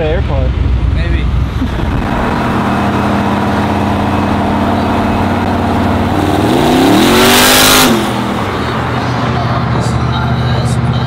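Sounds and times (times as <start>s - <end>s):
truck engine revving: 1.4s - 11.0s.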